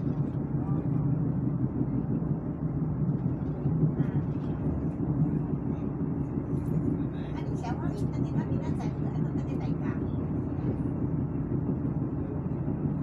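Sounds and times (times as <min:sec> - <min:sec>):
train coach running noise: 0:00.0 - 0:13.0.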